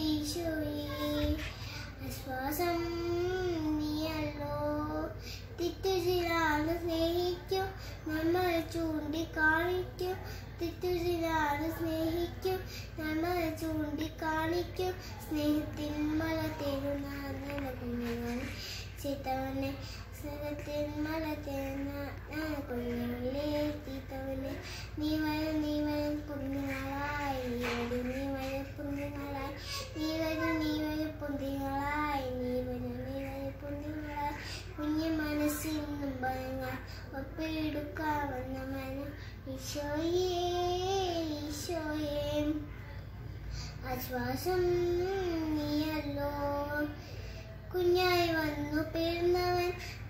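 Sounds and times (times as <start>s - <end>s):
girl singing unaccompanied: 0.0s - 50.0s.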